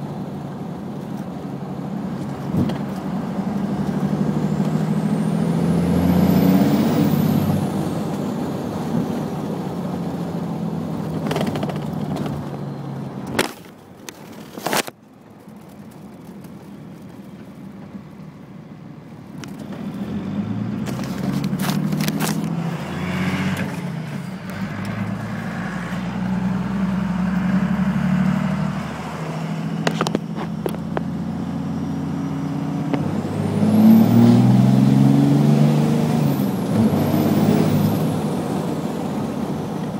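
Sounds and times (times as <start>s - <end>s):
diesel truck engine pulling: 0.0s - 14.8s, 15.6s - 39.9s.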